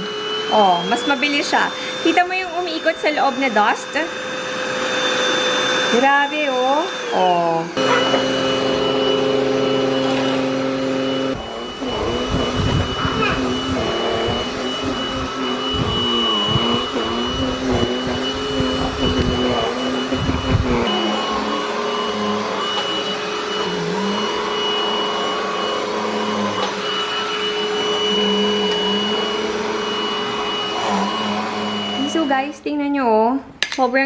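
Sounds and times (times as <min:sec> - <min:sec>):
handheld vacuum cleaner running: 0:00.0 - 0:33.3.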